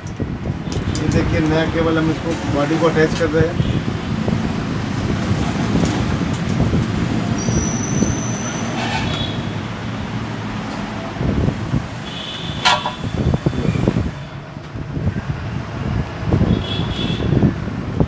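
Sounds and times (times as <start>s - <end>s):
street traffic noise: 0.0s - 18.0s.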